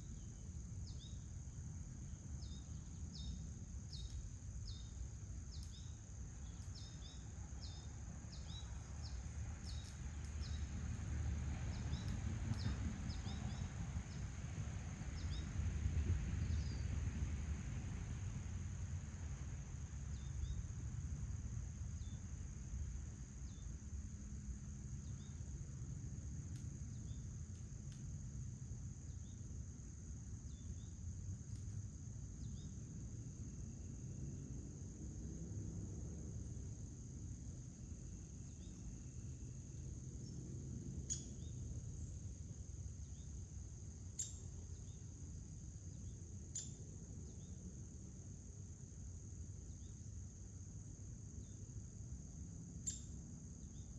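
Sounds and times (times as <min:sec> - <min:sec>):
crickets trilling: 0:00.0 - 0:53.9
low outdoor rumble: 0:00.0 - 0:53.9.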